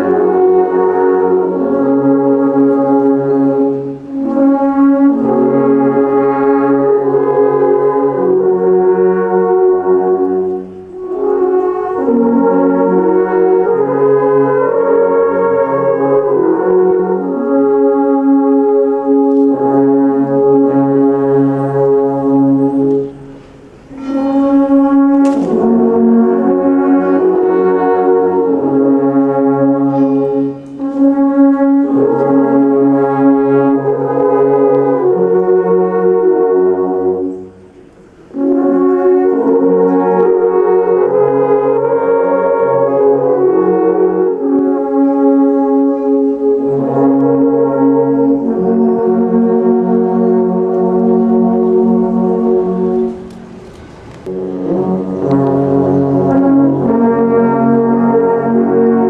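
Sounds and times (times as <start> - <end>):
alphorns playing sustained chords: 0.0 - 59.0.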